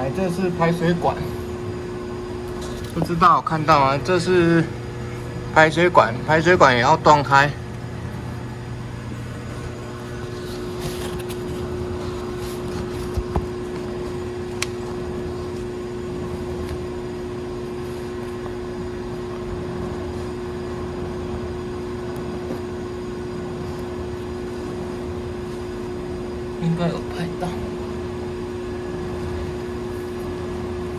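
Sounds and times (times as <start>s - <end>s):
air conditioner hum: 0.0s - 30.9s.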